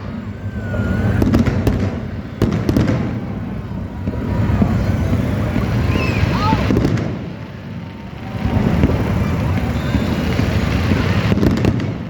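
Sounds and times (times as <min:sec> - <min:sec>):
continuous low rumble: 0:00.0 - 0:12.0
fireworks booming bursts: 0:00.0 - 0:12.0
fireworks sharp cracks: 0:00.0 - 0:12.0.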